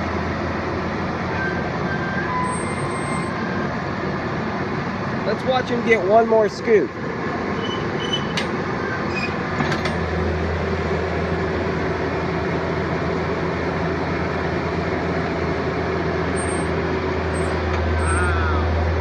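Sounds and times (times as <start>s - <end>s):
deep steady engine hum: 0.0s - 19.0s
excavator diesel engine running: 0.0s - 19.0s.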